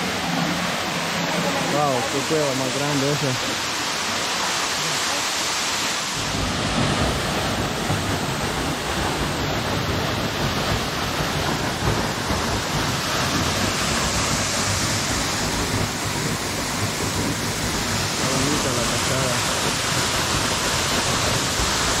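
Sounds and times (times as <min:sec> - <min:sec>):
waterfall rushing onto rock: 0:00.0 - 0:22.0.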